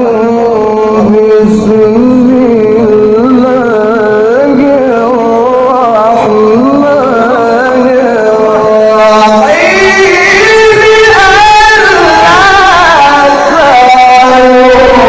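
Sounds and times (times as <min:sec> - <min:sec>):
person reciting melismatic chant: 0:00.0 - 0:15.0.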